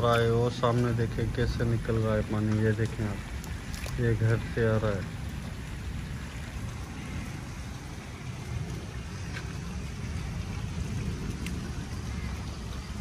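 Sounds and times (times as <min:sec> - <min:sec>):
rain and running rainwater: 0:00.0 - 0:13.0.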